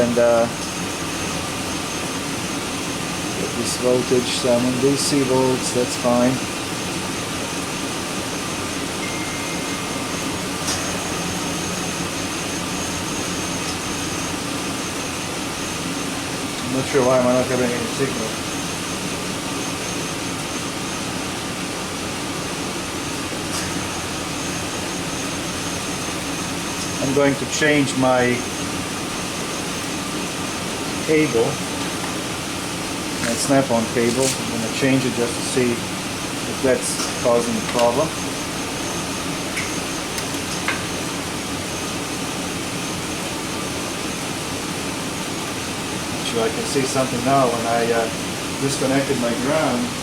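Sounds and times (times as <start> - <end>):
misfiring engine running: 0.0 - 50.0.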